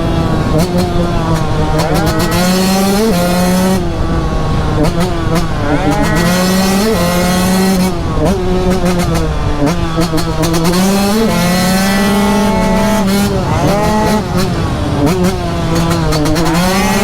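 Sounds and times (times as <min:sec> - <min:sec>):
two-stroke motorcycle engine revving: 0:00.0 - 0:17.0.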